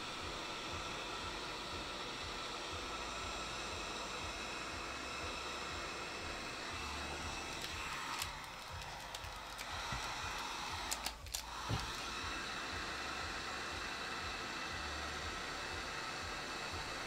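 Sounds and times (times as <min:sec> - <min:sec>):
heat gun blowing: 0:00.0 - 0:17.0.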